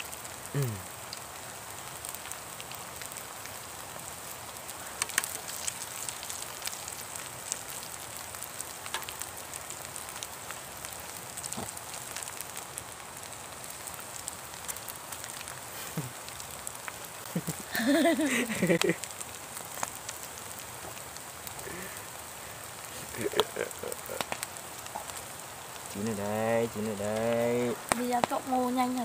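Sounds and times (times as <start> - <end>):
oil crackles and pops: 0.0 - 29.0
pancakes sizzling in oil: 0.0 - 29.0.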